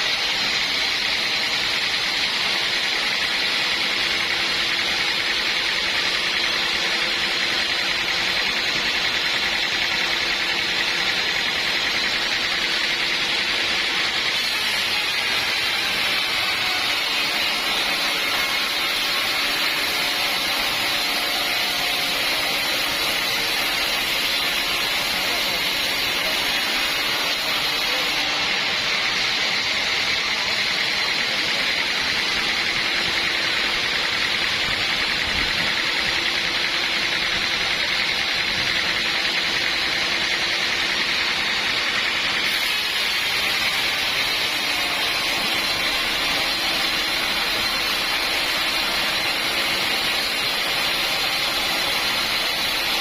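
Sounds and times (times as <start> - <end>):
sawmill mechanical hiss: 0.0 - 53.0.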